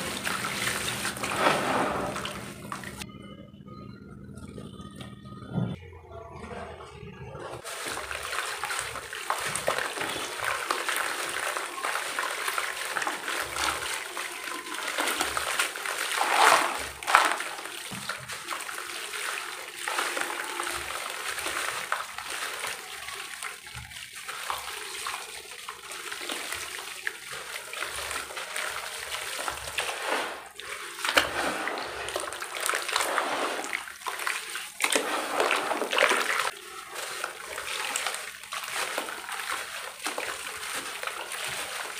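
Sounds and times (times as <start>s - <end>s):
dirt crumbs splashing into water: 0.0s - 3.0s, 7.6s - 41.9s
hands sloshing muddy water: 0.0s - 3.0s, 7.6s - 41.9s.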